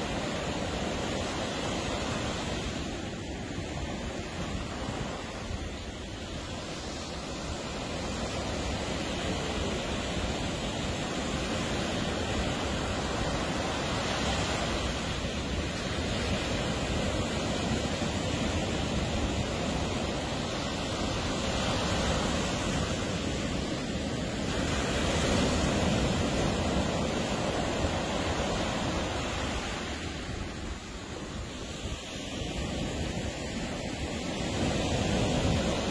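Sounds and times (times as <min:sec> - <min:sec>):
ocean waves breaking on beach: 0:00.0 - 0:35.9.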